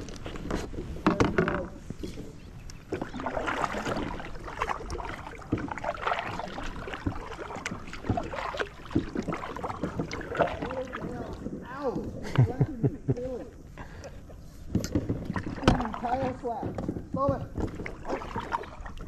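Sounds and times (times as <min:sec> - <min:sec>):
paddle splashing water: 0:00.0 - 0:19.0.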